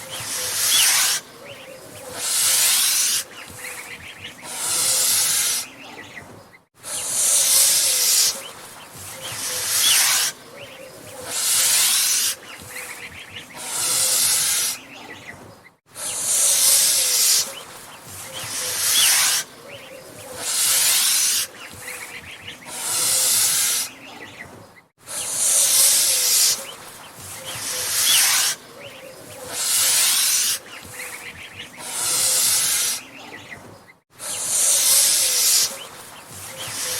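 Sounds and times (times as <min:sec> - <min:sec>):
goose hissing: 0:00.0 - 0:06.0, 0:06.8 - 0:15.1, 0:15.9 - 0:24.2, 0:25.0 - 0:33.4, 0:34.2 - 0:36.9.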